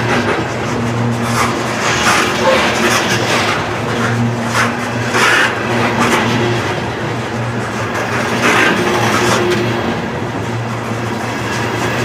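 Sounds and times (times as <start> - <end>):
freight train wheels rumbling: 0.0 - 12.0
train wheels clattering: 0.0 - 12.0.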